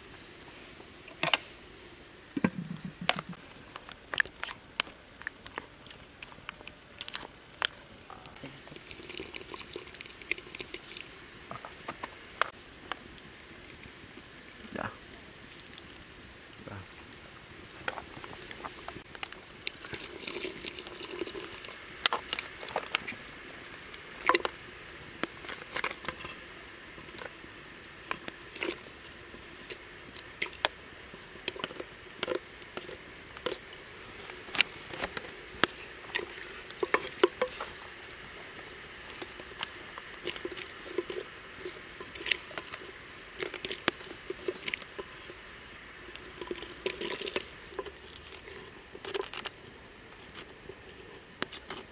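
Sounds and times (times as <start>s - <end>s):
pot simmering: 0.0s - 51.9s
wood fire crackling: 0.0s - 51.9s.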